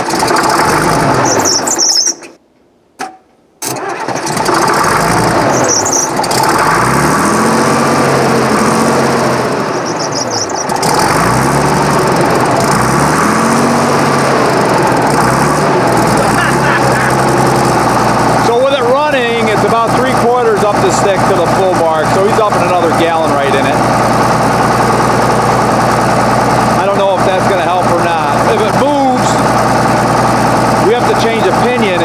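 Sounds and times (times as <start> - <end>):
diesel engine starting and surging: 0.0 - 2.4, 3.6 - 32.0.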